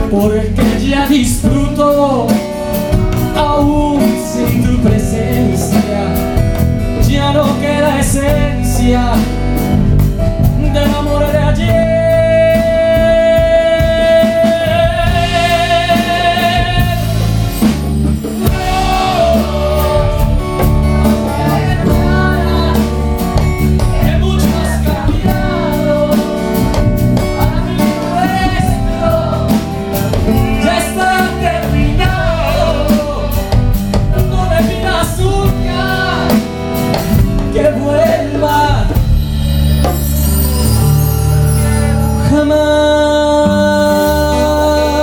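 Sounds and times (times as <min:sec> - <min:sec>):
man singing a ballad: 0:00.0 - 0:17.7, 0:18.3 - 0:39.1, 0:41.5 - 0:45.0
band playing: 0:00.0 - 0:45.0.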